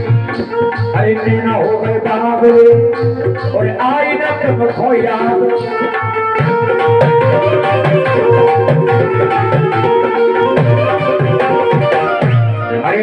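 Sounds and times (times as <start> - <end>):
harmonium playing: 0.0 - 13.0.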